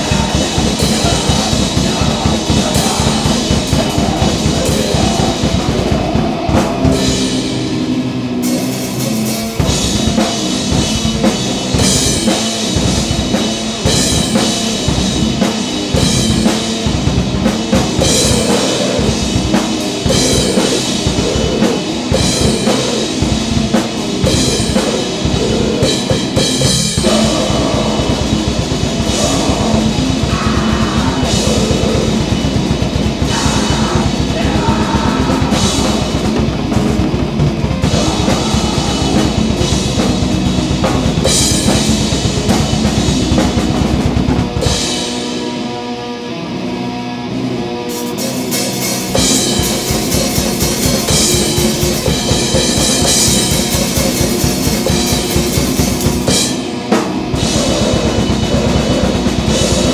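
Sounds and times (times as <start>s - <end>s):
distorted guitar: 0.0s - 59.9s
grindcore band playing: 0.0s - 59.9s
pounding drum kit: 0.0s - 59.9s.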